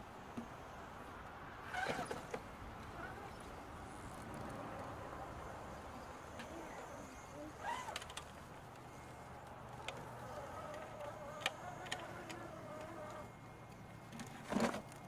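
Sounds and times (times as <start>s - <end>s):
electric motor whining: 1.7s - 13.8s.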